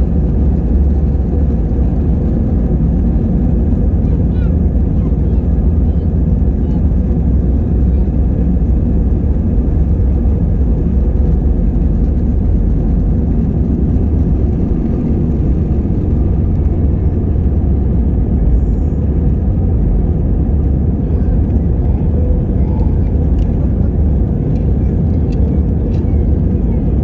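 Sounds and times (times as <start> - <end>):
jet engine rumble in cabin: 0.0 - 27.0.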